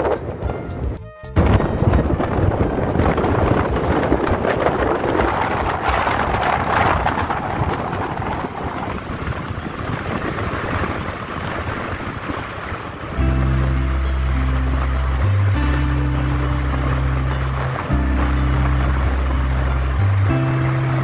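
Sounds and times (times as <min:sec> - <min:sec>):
road and traffic noise: 0:00.0 - 0:21.0
wind rushing over microphone: 0:00.0 - 0:21.0.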